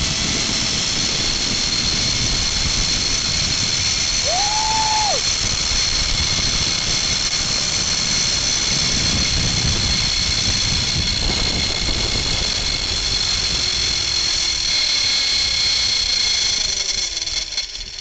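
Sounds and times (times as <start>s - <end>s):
wind rumble on microphone: 0.0s - 18.0s
zip-line pulleys whining: 0.0s - 18.0s.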